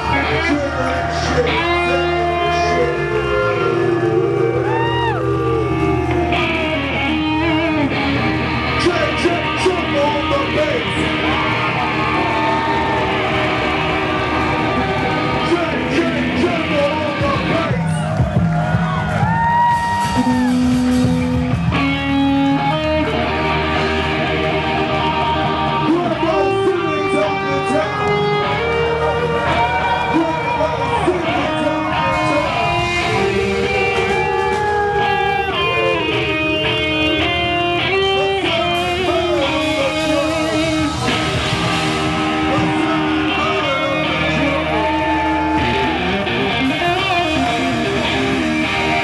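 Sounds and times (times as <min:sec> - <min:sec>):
funk band playing: 0:00.0 - 0:49.0.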